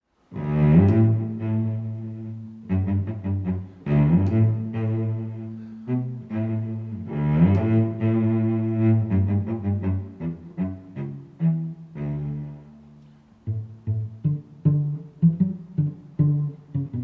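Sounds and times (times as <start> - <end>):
cello playing sustained notes: 0.3 - 17.0.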